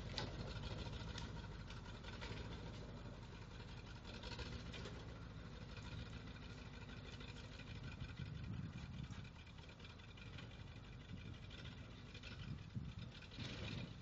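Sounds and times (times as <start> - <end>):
truck engine idling roughly: 0.0 - 14.0.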